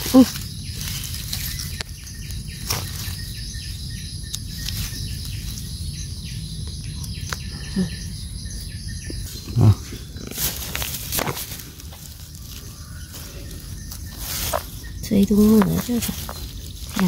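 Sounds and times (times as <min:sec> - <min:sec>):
birds calling: 0:00.0 - 0:17.0
high insect drone: 0:00.0 - 0:17.0.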